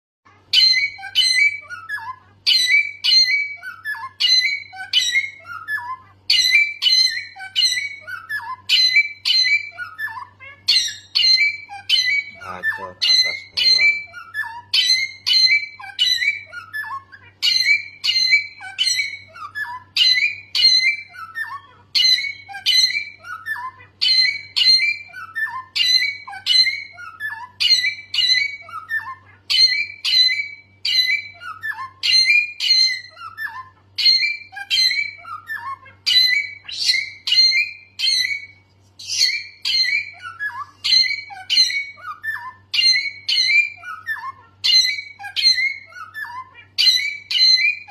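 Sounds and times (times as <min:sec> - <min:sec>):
songbird singing: 0:00.4 - 0:47.9.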